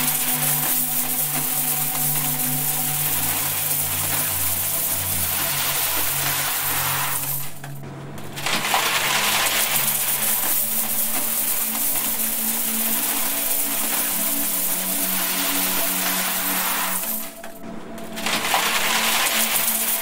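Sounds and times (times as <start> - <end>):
coins pouring into metal box: 0.0 - 7.6, 8.4 - 17.6, 18.2 - 20.0
steady low tones: 0.0 - 10.0, 12.6 - 19.1.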